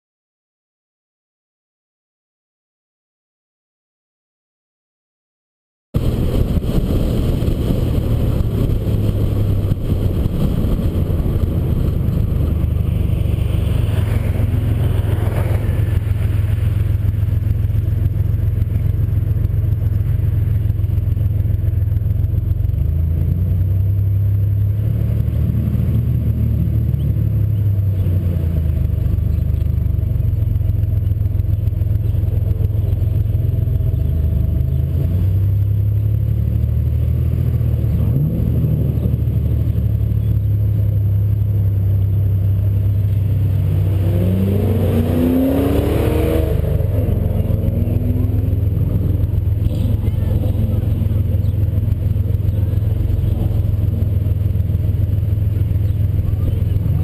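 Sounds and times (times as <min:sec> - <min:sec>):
car engine drone: 0:06.0 - 0:57.0
road noise: 0:06.0 - 0:57.0.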